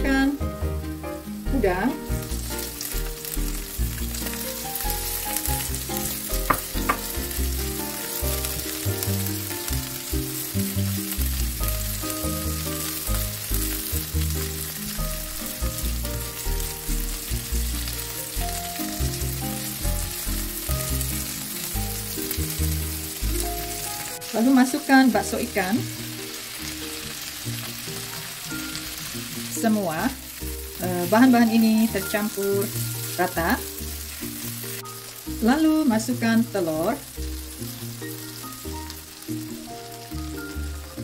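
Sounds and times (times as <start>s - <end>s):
prawns sizzling in oil: 0.0s - 41.0s.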